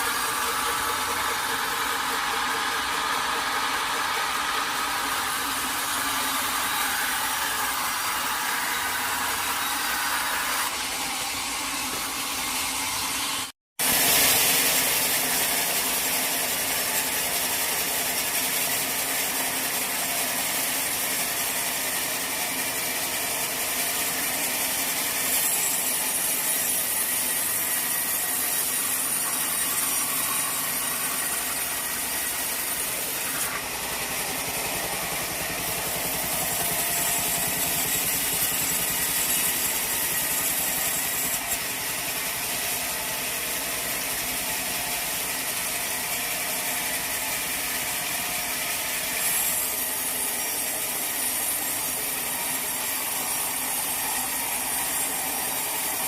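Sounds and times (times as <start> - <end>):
saw cutting a log: 0.0 - 56.0.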